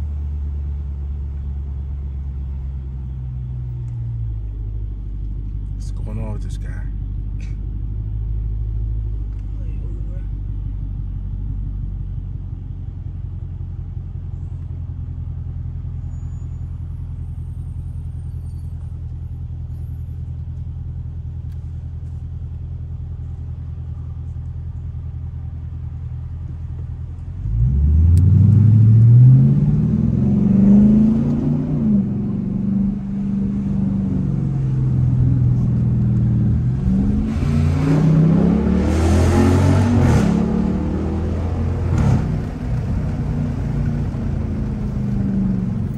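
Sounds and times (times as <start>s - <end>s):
car engine idling and accelerating: 0.0s - 45.9s.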